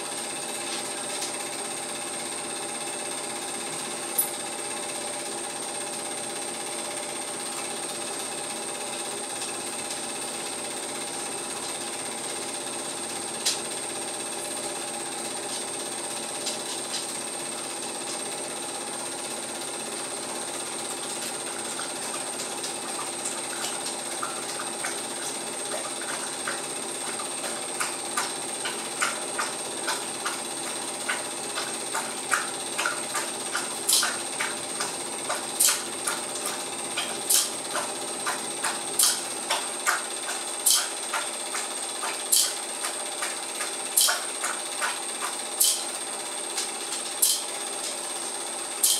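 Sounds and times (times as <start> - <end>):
film projector whirring: 0.0 - 48.9.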